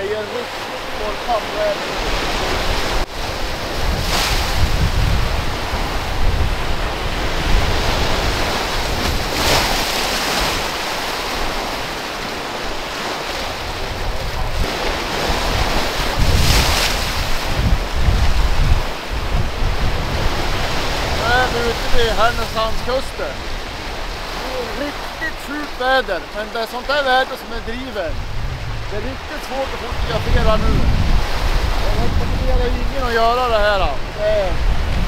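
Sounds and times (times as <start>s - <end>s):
wind buffeting microphone: 0.0s - 26.4s, 27.4s - 35.0s
sea waves breaking: 0.0s - 35.0s.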